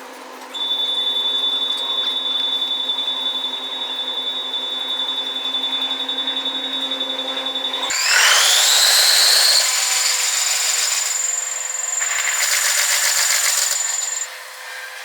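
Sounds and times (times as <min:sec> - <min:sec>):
electric train motor whine: 0:00.6 - 0:14.6.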